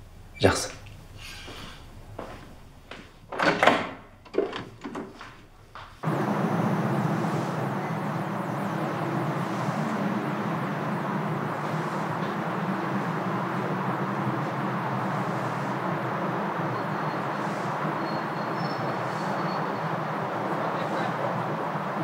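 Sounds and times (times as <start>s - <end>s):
distant traffic hum: 0.0s - 22.0s.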